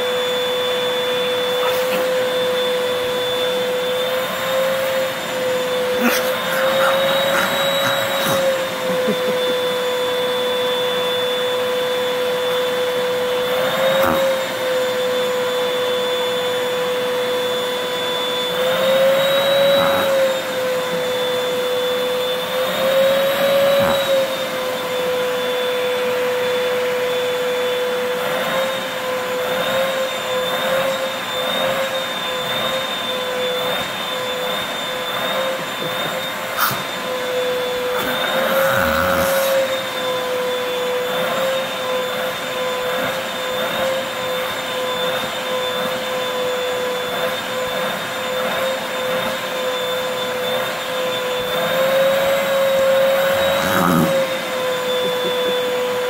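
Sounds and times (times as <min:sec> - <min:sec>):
vacuum cleaner suction: 0:00.0 - 0:56.0.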